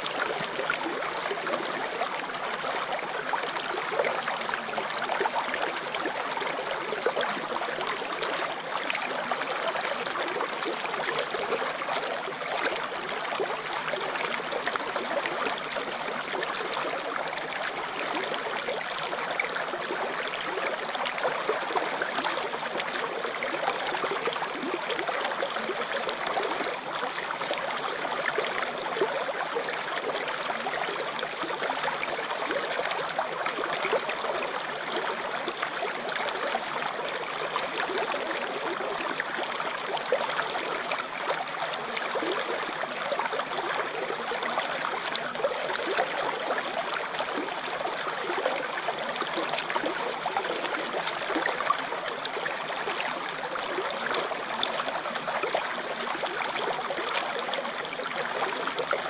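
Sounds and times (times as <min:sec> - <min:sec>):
stream water rippling over rocks: 0:00.0 - 0:59.0.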